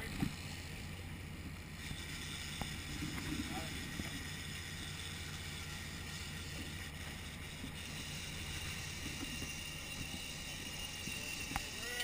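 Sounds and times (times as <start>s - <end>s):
boat engines humming: 0.0s - 12.0s
wind and water hiss: 0.0s - 12.0s.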